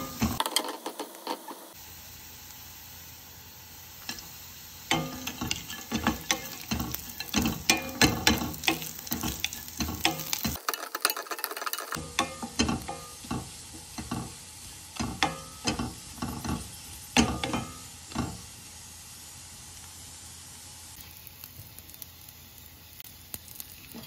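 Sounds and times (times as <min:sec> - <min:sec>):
frying sizzle: 0:00.0 - 0:24.0.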